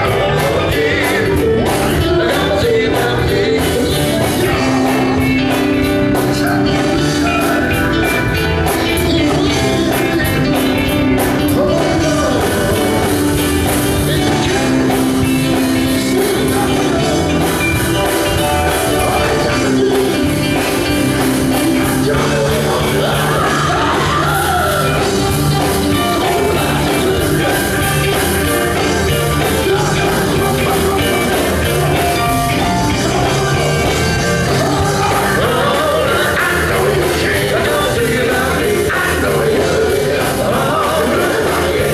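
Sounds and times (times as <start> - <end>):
live band with drums and guitar: 0.0 - 41.9
male vocal group singing: 0.0 - 41.9.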